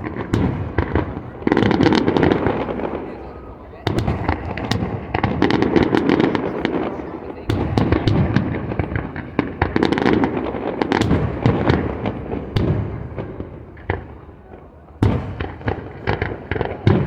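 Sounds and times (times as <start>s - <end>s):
fireworks cracking and booming: 0.0s - 17.0s
loud firework bang: 0.0s - 17.0s.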